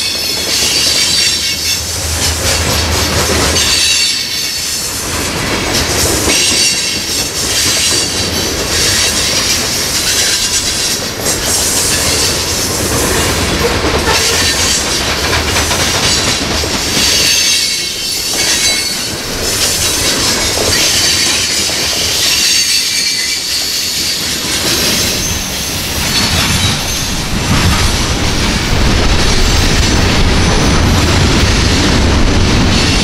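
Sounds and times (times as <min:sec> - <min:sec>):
wheels squealing on rail: 0:00.0 - 0:05.1, 0:05.8 - 0:27.8
train wheels clacking over rail joints: 0:00.0 - 0:33.0.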